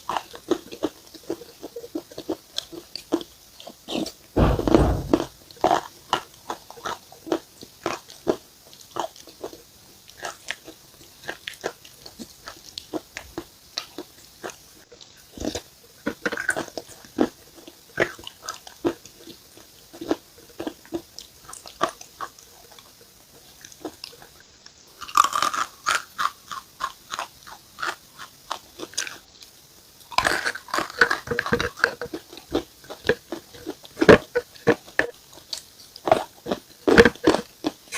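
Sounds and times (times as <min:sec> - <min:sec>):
person chewing crunchy food: 0:00.0 - 0:37.9.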